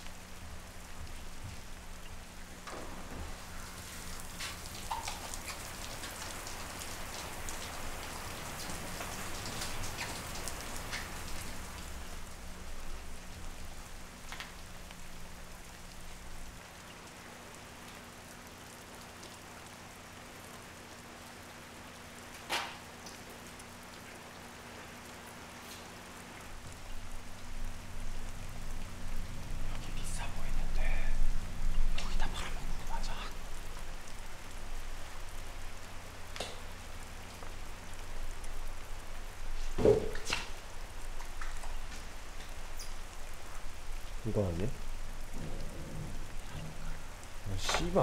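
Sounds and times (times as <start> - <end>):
low steady hum: 0.0 - 48.0
steady rain falling: 0.0 - 48.0.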